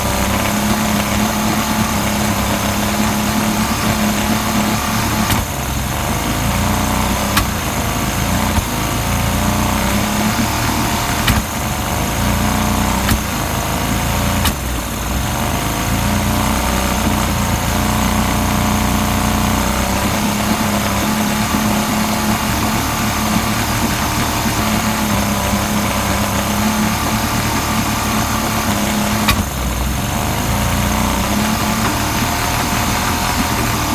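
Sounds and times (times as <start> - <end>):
engine idling with misfires: 0.0 - 33.9.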